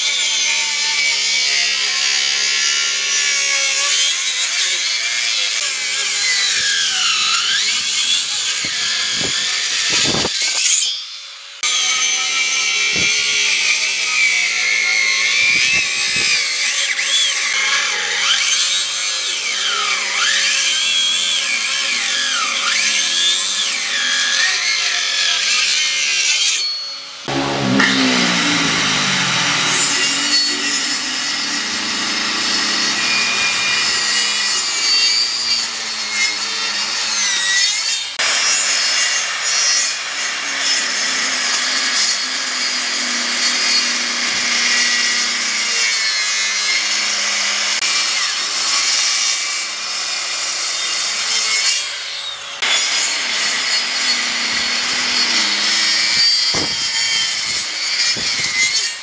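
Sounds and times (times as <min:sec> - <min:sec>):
circular saw cutting wood: 0:00.0 - 0:59.0.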